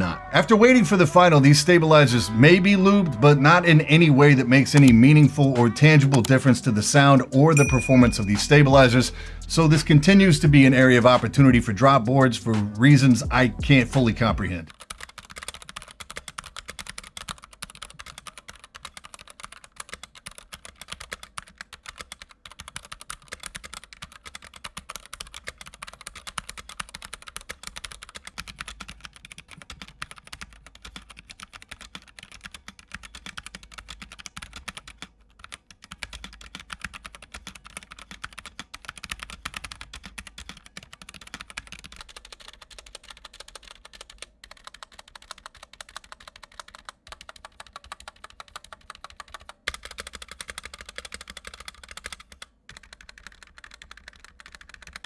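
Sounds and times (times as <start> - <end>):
fast typing on mechanical keyboard: 2.8 - 13.3, 14.0 - 55.0.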